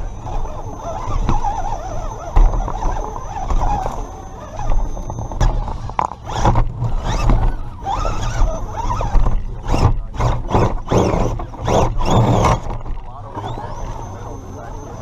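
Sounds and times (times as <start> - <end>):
electric motor whining in bursts: 0.0 - 15.0.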